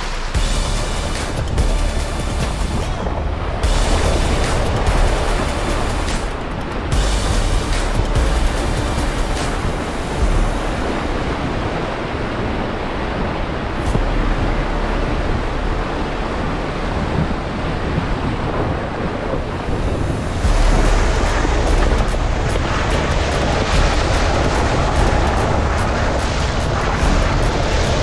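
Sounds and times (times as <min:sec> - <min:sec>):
low rumble: 0:00.0 - 0:28.0
tires splashing through water: 0:00.0 - 0:28.0.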